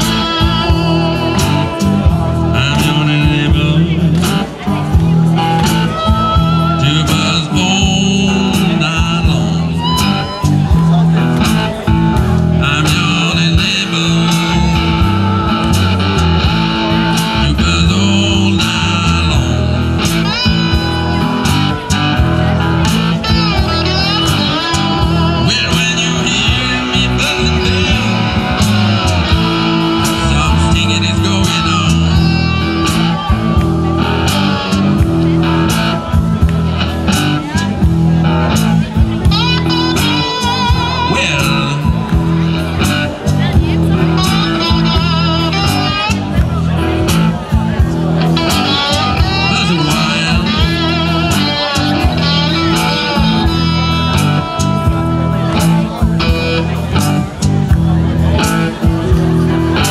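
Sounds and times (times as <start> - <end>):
amplified guitar lead: 0.0 - 59.9
electric blues band playing: 0.0 - 59.9.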